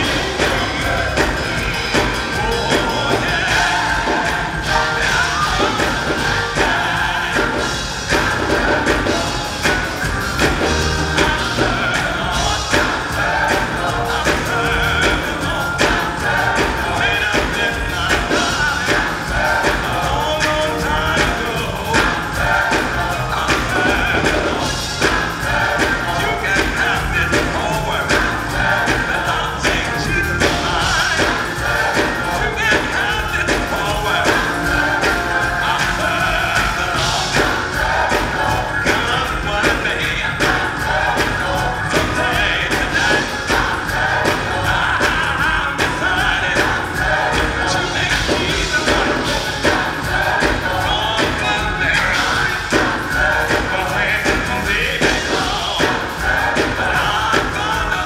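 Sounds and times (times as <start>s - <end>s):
gospel choir singing: 0.0s - 58.0s
live church band: 0.0s - 58.0s.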